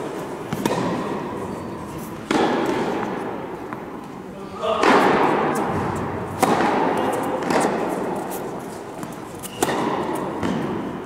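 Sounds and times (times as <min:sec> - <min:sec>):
tennis rackets striking ball: 0:00.0 - 0:01.5, 0:02.2 - 0:04.1, 0:04.8 - 0:11.0.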